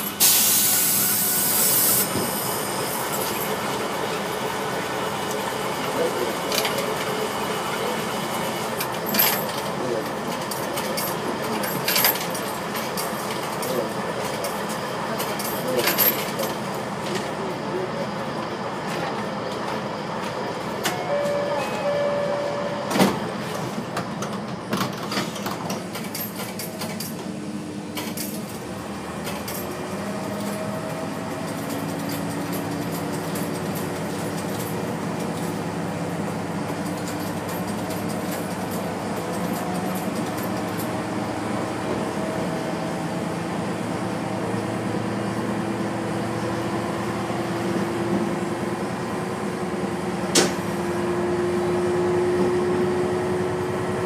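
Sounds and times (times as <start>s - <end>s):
diesel railcar engine drone: 0.0s - 54.0s
train wheels running noise: 0.0s - 54.0s.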